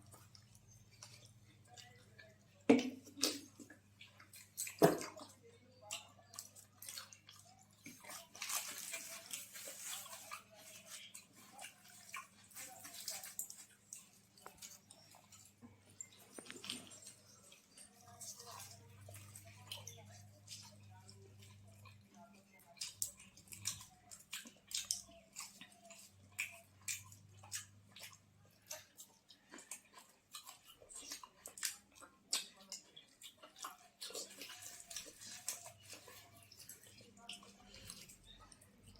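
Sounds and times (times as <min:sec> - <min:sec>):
wet chewing and mouth sounds: 0:00.0 - 0:38.9.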